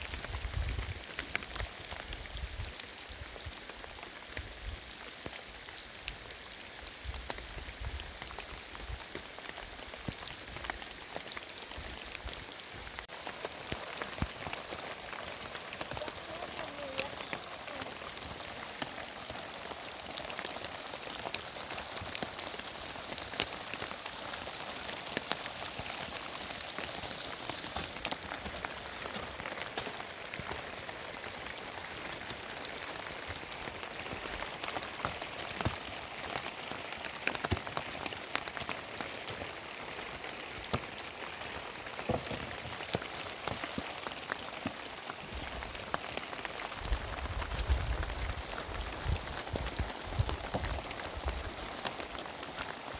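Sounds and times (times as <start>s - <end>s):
heavy rain falling: 0.0s - 52.9s
raindrops ticking on surfaces: 0.0s - 52.9s.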